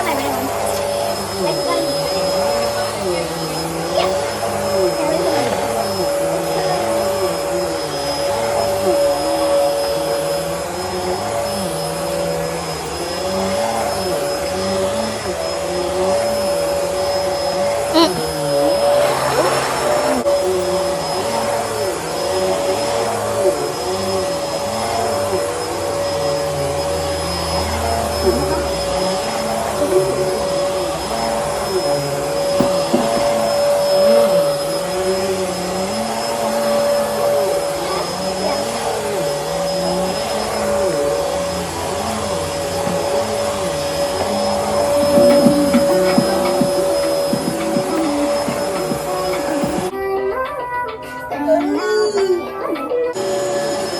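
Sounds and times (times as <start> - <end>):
low tone rising and falling: 0.0 - 49.9
vacuum cleaner running: 0.0 - 53.9.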